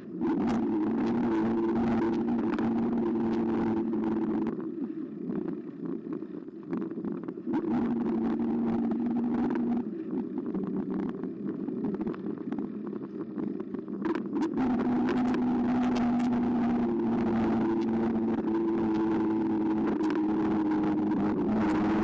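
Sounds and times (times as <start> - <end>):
electric bike motor whine: 0.0 - 5.8, 7.5 - 22.0.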